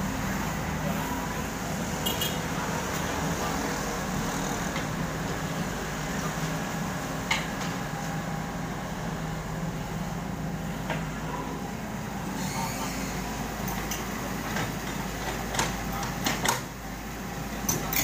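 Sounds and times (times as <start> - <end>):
diesel engine running: 0.0 - 17.7.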